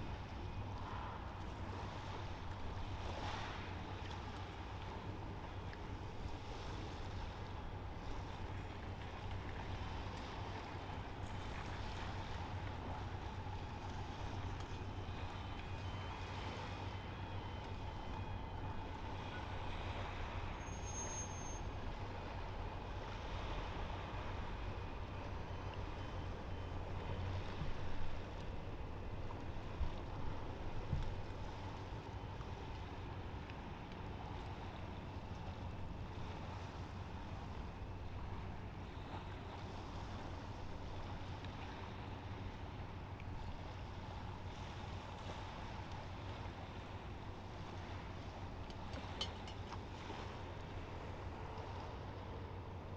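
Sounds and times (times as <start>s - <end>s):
harbour background noise: 0.0s - 52.9s
low drone of ship engines: 0.0s - 52.9s.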